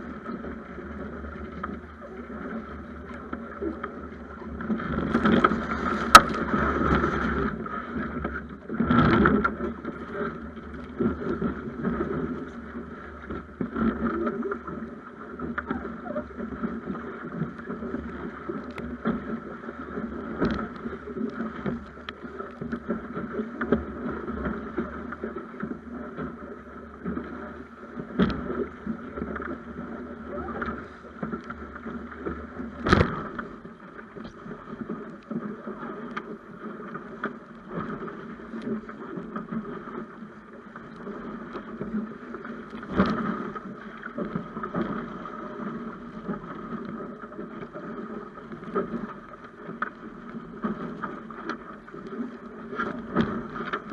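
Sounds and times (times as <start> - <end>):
water splashing along a hull: 0.0 - 53.9.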